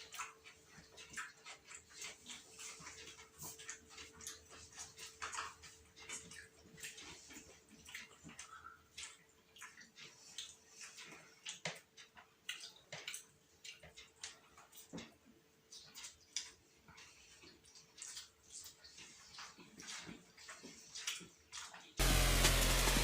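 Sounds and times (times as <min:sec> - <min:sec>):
wet chewing and lip smacks: 0:00.0 - 0:22.0.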